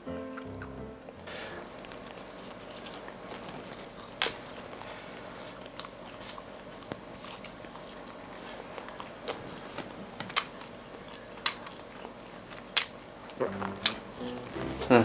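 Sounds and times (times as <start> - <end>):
person chewing soft bread: 0.4 - 14.8.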